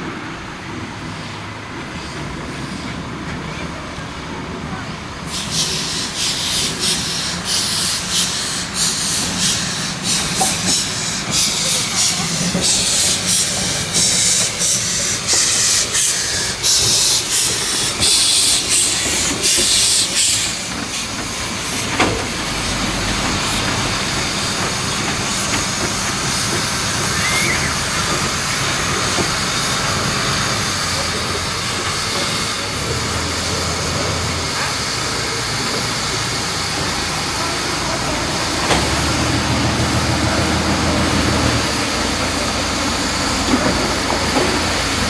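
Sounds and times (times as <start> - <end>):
steam bursts: 0.0 - 45.0
steam locomotive hissing: 0.0 - 45.0.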